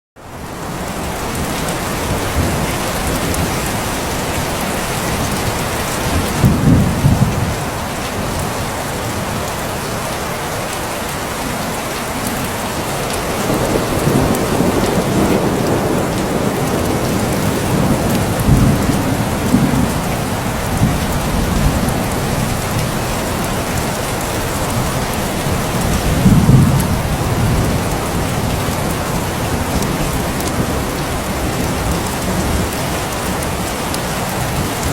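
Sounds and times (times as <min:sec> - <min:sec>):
heavy rain hissing: 0:00.3 - 0:34.9
low thunder rumbles: 0:01.3 - 0:09.5, 0:13.2 - 0:33.7.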